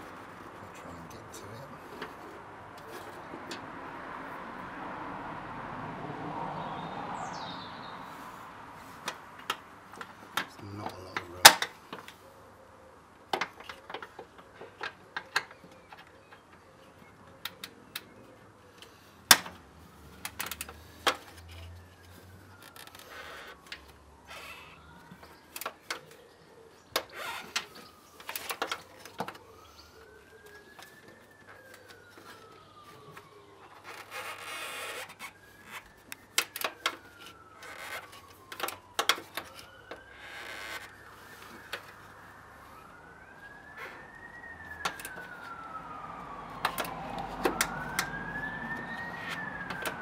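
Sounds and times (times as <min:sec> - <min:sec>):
faint wailing siren: 0:00.0 - 0:50.0.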